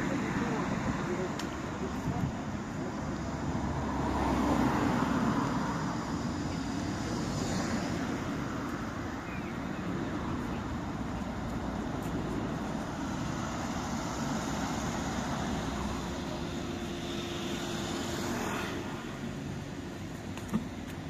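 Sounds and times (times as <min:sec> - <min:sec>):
bus driving past: 0:00.0 - 0:21.0
road noise: 0:00.0 - 0:21.0.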